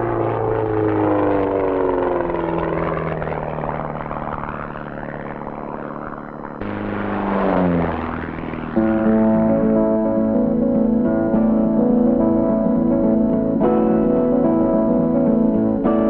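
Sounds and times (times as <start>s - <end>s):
propeller plane engine passing low: 0.0s - 16.0s.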